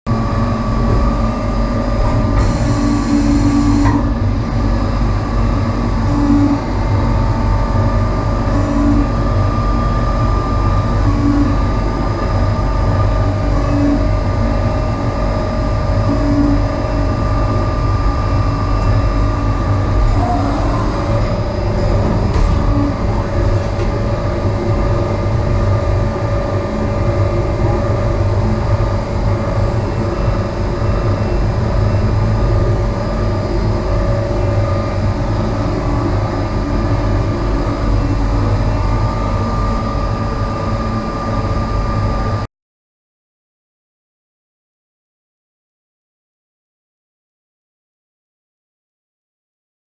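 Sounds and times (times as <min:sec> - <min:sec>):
short regular machine pulse: 0:00.1 - 0:42.4
lathe machine humming and whining: 0:00.1 - 0:42.5.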